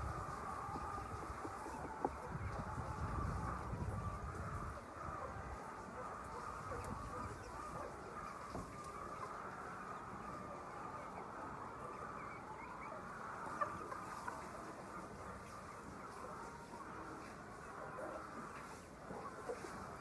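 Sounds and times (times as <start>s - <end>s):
chickens clucking and peeping: 0.0s - 20.0s.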